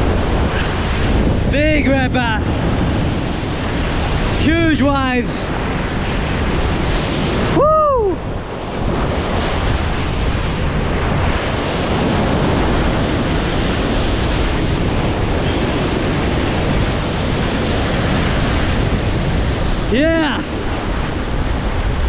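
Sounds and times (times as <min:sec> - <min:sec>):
heavy surf breaking over rocks: 0:00.0 - 0:22.0.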